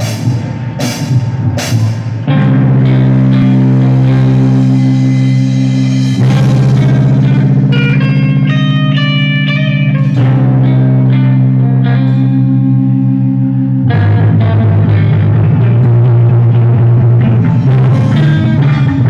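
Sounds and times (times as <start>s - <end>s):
distorted electric guitar chords: 0.0s - 19.0s
higher single guitar notes: 0.0s - 19.0s.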